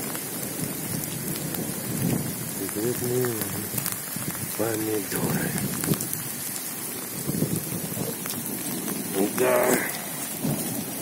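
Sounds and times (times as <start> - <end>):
steady rain on puddles: 0.0 - 11.0.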